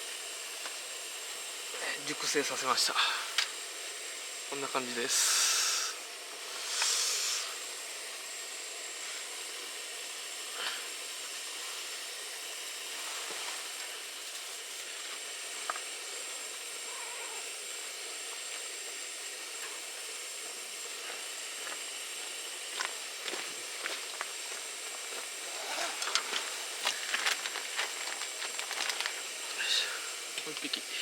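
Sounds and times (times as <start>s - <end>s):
hotpot simmering hiss: 0.0s - 31.0s.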